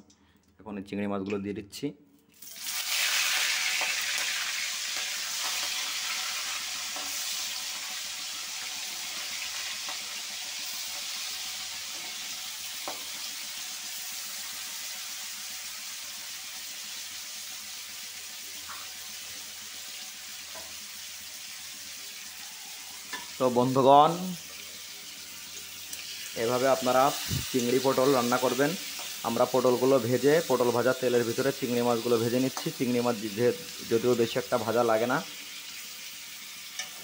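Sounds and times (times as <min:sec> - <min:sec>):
prawns sizzling in hot oil: 0:02.4 - 0:37.0.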